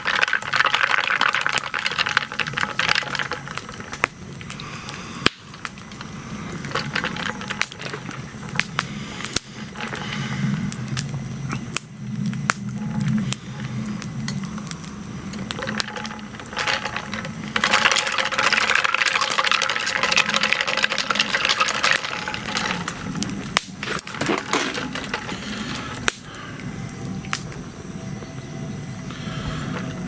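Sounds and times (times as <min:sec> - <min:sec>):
campfire crackling and popping: 0:00.0 - 0:30.0
steady hiss: 0:00.0 - 0:30.0.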